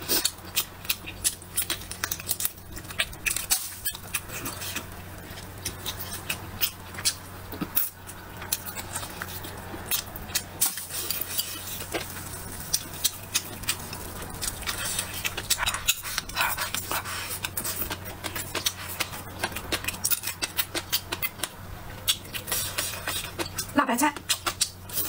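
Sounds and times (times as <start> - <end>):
steady low hum: 0.0 - 25.0
wet chewing and lip-smacking: 0.0 - 25.0.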